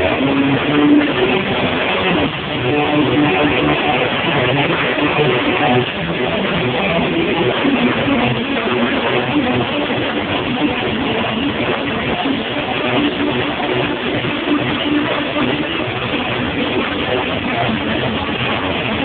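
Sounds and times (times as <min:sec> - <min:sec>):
live band with electric guitars: 0:00.0 - 0:19.0.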